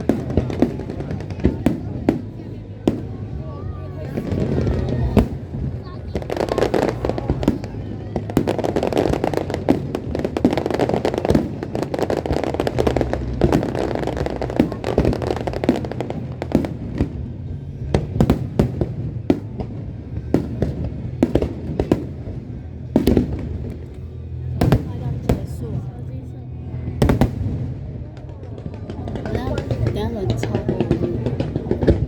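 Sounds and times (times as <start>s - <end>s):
fireworks bangs and crackling: 0.0s - 32.0s
music playing: 0.0s - 32.0s.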